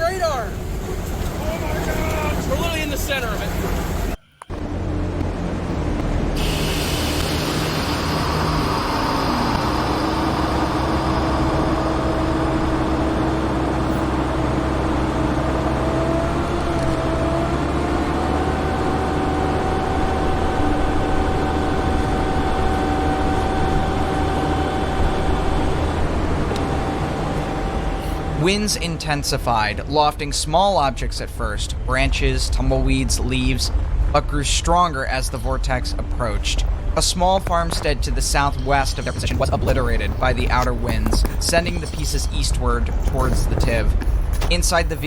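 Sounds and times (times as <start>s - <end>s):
strong wind roaring: 0.0s - 29.9s, 31.6s - 45.0s
whistling wind howl: 0.0s - 45.0s.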